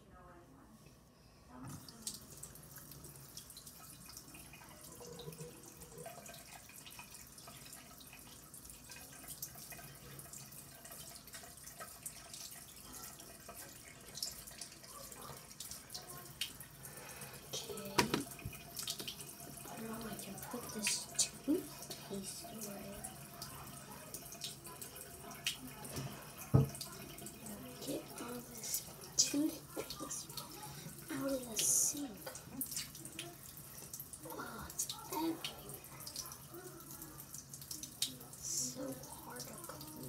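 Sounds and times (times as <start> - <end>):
sink tap running: 1.8 - 40.0.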